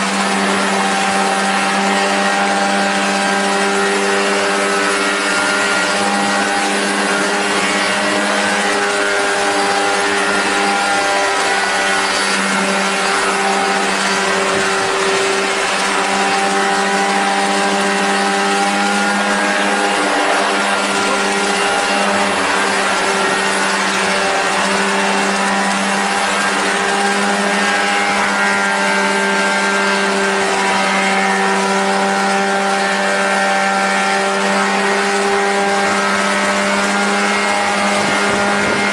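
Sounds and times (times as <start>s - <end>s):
aircraft engine running steadily: 0.0s - 38.9s.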